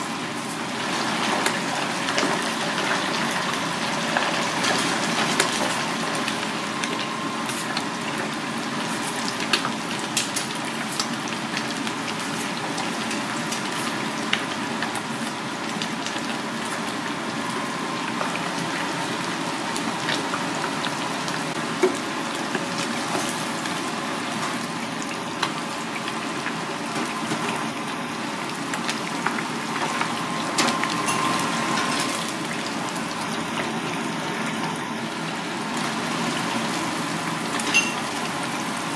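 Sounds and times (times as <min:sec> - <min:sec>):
hot oil sizzling and crackling: 0:00.0 - 0:38.9.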